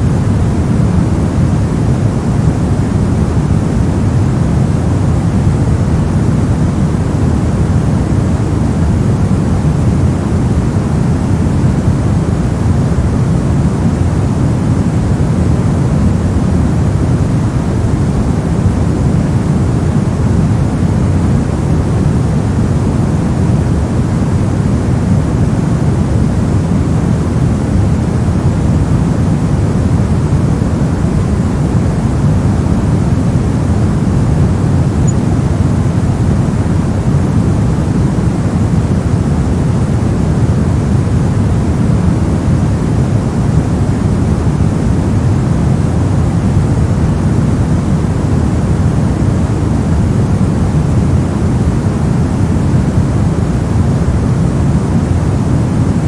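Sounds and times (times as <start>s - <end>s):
low white noise: 0.0s - 56.0s.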